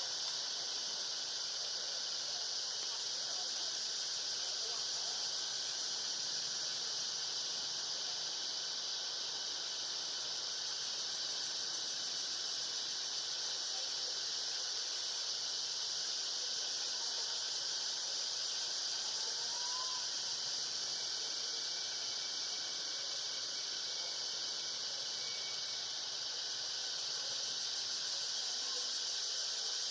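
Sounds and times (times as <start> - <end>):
insect chorus: 0.0 - 29.9.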